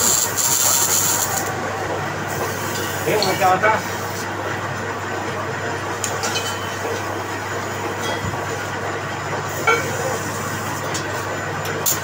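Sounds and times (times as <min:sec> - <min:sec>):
lathe humming: 0:00.0 - 0:11.8.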